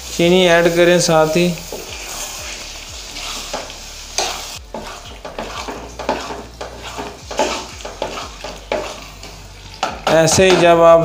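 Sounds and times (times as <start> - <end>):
wooden spatula scraping a pan: 1.2 - 10.8.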